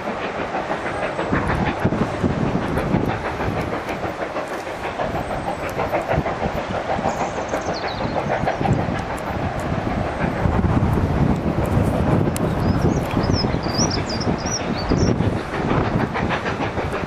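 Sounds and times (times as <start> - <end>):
steam locomotive chuffing: 0.0 - 17.0
wind on microphone: 0.0 - 17.0.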